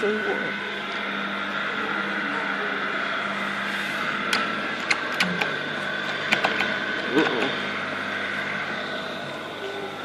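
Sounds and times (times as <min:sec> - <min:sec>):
mechanical hum with high whine: 0:00.0 - 0:10.0.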